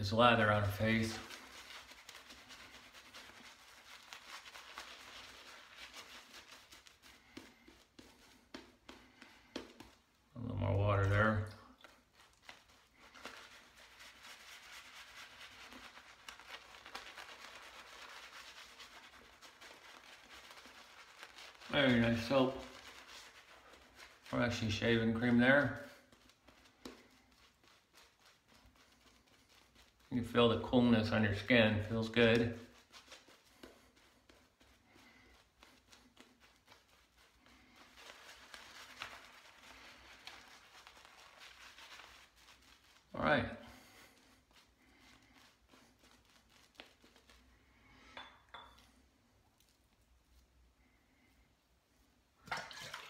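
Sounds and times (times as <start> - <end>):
shaving brush swishing on stubble: 0.0 - 48.0.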